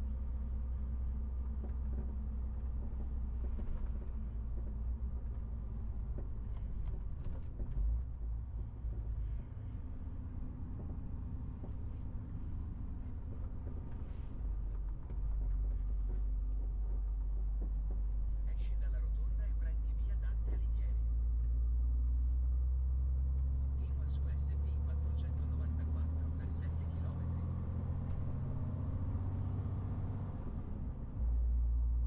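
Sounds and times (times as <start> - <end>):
road rumble: 0.0 - 32.0.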